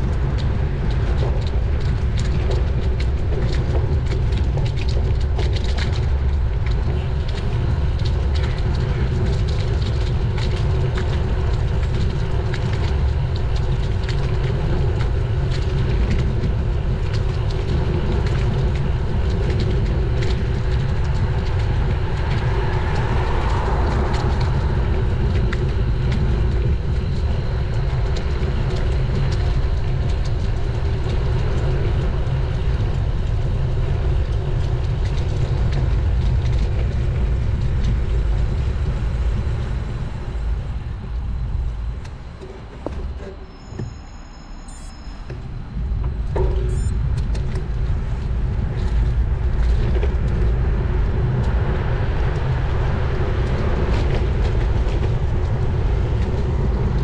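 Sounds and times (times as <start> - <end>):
wind buffeting microphone: 0.0 - 44.0, 44.7 - 57.0.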